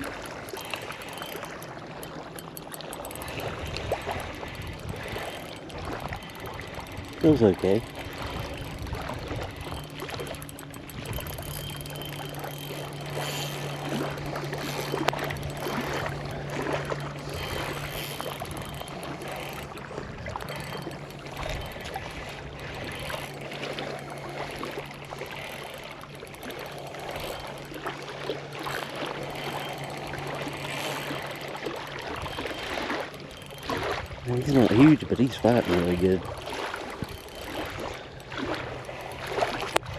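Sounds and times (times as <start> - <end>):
steady low hum: 0.0 - 39.9
water splashing and lapping: 0.0 - 39.9.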